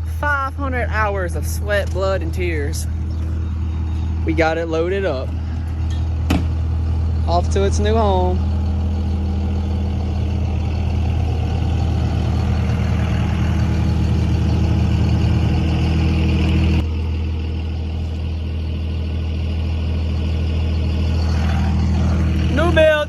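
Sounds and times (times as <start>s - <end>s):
diesel truck engine drone: 0.0s - 23.0s.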